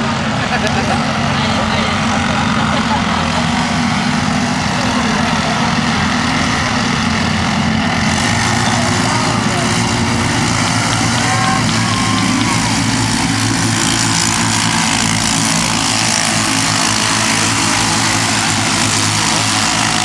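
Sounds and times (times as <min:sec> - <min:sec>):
small toy engines running: 0:01.4 - 0:20.0.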